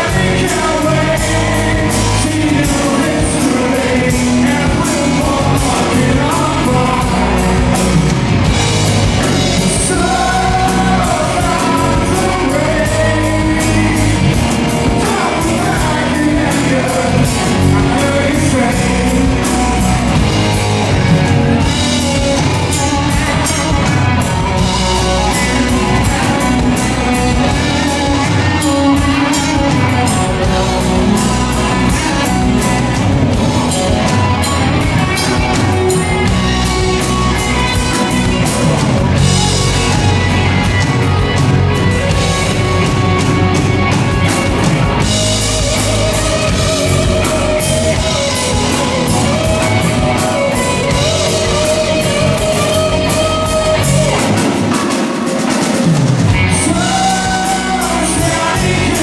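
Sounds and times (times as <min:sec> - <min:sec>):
rock music with drums and guitar: 0:00.0 - 0:59.0.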